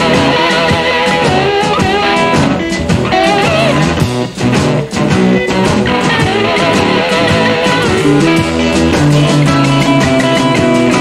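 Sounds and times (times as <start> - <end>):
distorted electric guitars: 0.0 - 11.0
drums: 0.0 - 11.0.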